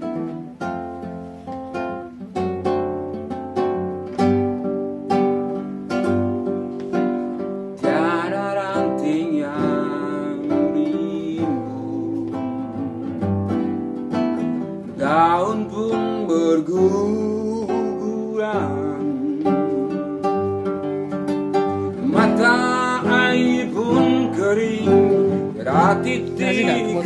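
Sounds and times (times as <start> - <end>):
acoustic guitar strumming: 0.0 - 27.0
sliding lead melody: 0.0 - 27.0.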